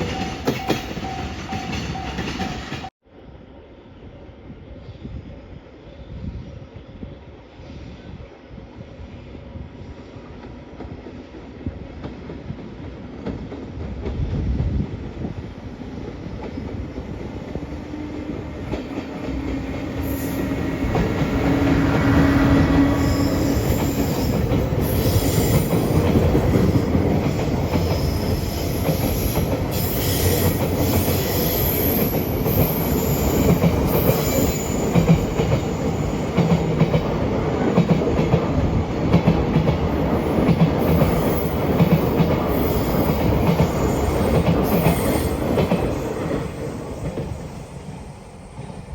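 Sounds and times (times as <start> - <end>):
freight train passing: 0.0 - 48.9.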